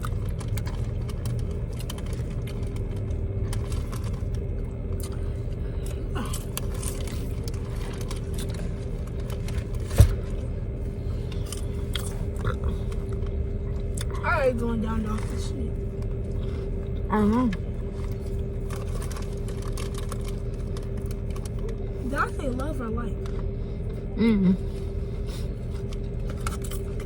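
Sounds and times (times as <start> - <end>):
low rumble: 0.0 - 27.0
steady hum: 0.0 - 27.0.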